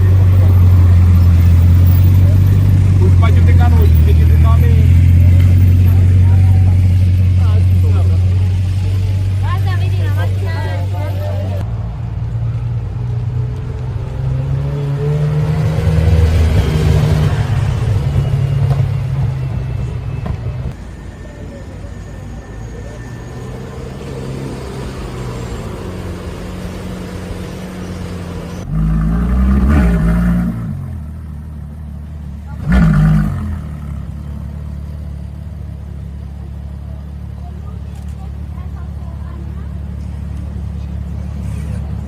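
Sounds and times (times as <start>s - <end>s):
car engine idling and revving: 0.0s - 42.0s
loud car engine: 0.0s - 42.0s.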